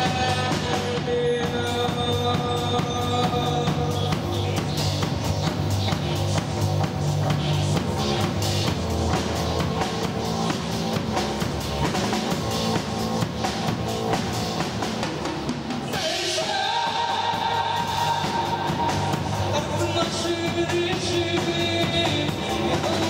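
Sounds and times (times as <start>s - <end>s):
drum kit beat: 0.0s - 23.0s
electric bass: 0.0s - 23.0s.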